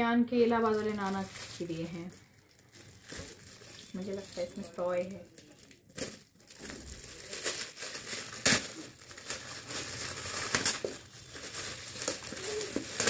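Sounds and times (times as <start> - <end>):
wrapping paper tearing and crumpling: 0.6 - 13.0.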